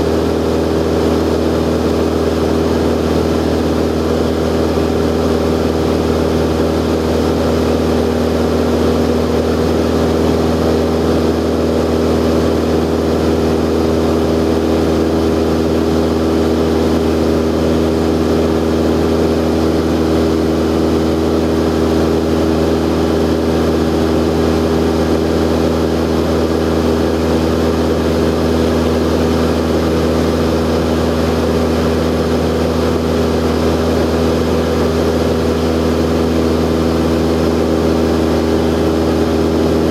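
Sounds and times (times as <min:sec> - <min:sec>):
light aircraft engine droning in cabin: 0:00.0 - 0:39.9.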